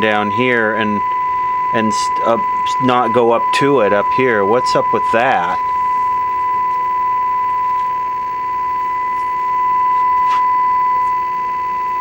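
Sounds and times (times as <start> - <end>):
pure test tone: 0.0 - 12.0.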